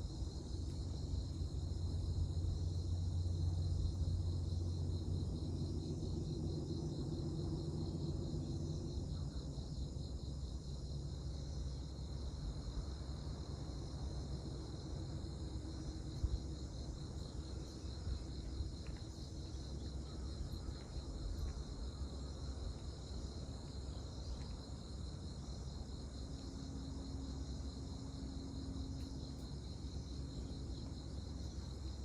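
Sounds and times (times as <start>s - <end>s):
faint hum: 0.0s - 32.0s
insects chirring: 0.0s - 32.0s.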